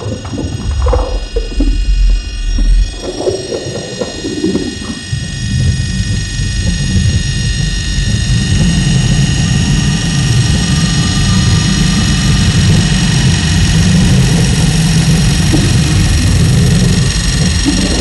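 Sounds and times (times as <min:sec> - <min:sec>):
electronic drone music: 0:00.0 - 0:18.0.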